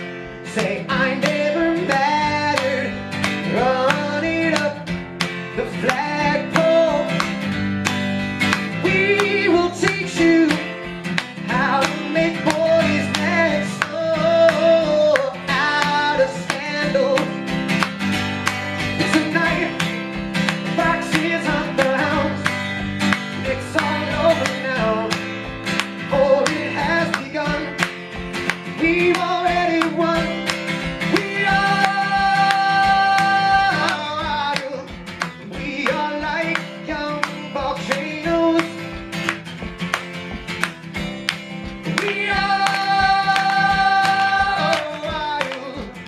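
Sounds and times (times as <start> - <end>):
man singing: 0.0 - 7.4, 8.7 - 17.8, 18.8 - 39.0, 41.7 - 46.0
steady drum beat: 0.0 - 46.0
strummed guitar: 0.0 - 46.0.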